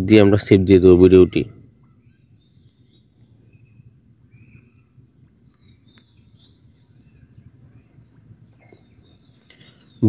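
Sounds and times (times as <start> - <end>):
steady low hum: 0.0 - 10.0
faint high chirps: 0.3 - 10.0.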